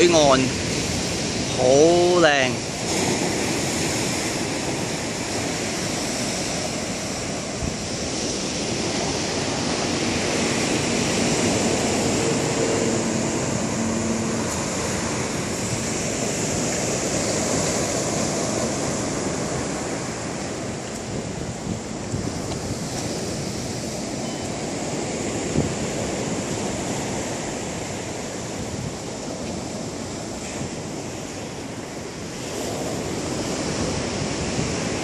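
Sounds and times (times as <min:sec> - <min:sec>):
surf breaking on pebble beach: 0:00.0 - 0:28.7.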